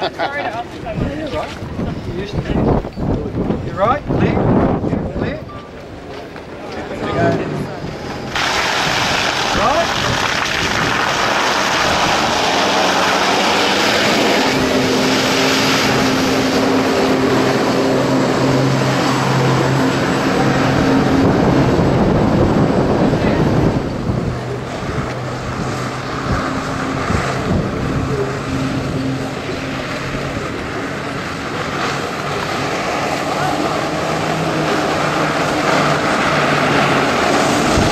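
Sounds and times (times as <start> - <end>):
wind noise on microphone: 0.7 - 5.6, 7.1 - 33.2, 33.8 - 37.9
water rushing: 6.5 - 37.9
motorboat engine running: 7.3 - 37.9.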